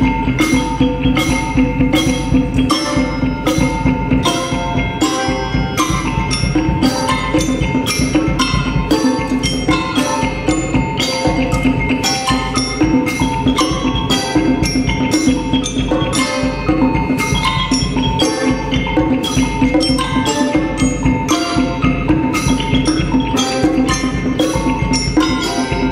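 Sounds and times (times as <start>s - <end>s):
mallet percussion ensemble: 0.0s - 25.9s.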